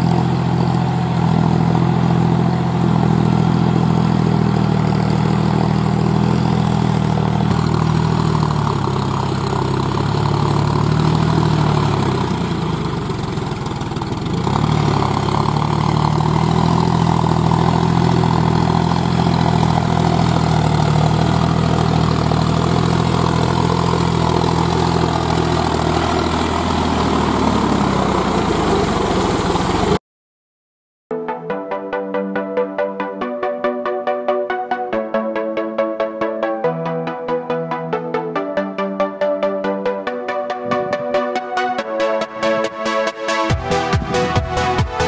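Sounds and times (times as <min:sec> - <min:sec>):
tractor engine idling: 0:00.0 - 0:30.0, 0:35.1 - 0:45.0.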